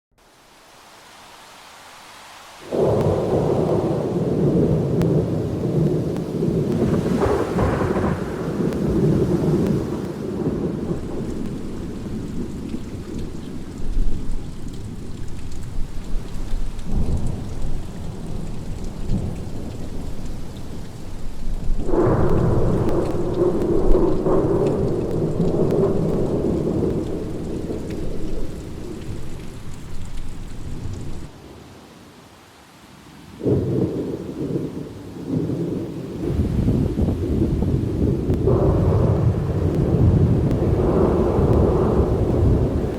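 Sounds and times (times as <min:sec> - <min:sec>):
steady rain: 0:00.2 - 0:42.9
thunder rolling: 0:02.7 - 0:31.4, 0:35.3 - 0:42.9.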